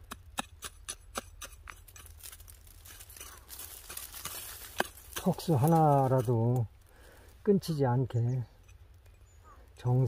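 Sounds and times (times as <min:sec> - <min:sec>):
soil crunching and scraping: 0:00.0 - 0:10.0.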